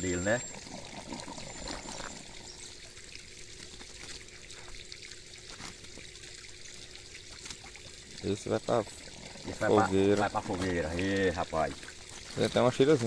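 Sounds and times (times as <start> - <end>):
water trickling and pouring: 0.0 - 13.0.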